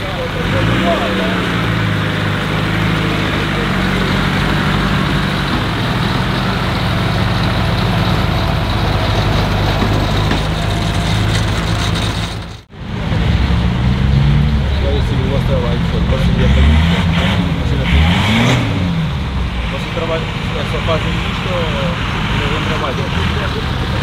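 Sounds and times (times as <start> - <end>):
dense rushing noise: 0.0 - 24.0
off-road vehicle engine running: 0.0 - 24.0.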